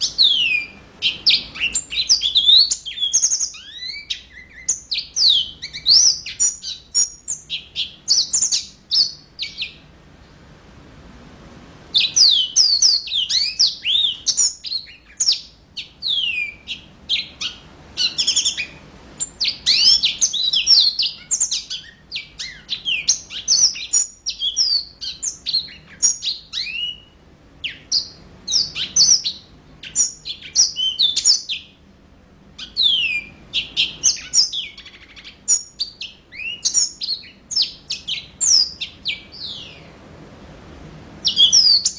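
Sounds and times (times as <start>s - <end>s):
canary singing: 0.0s - 10.4s, 11.8s - 40.1s, 41.1s - 41.9s.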